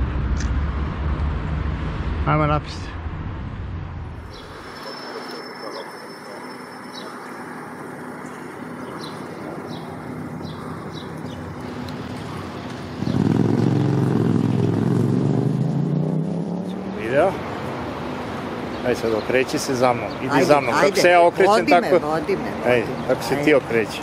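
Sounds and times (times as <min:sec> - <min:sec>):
road traffic noise: 0:00.0 - 0:24.0
vehicle engine passing: 0:00.0 - 0:24.0.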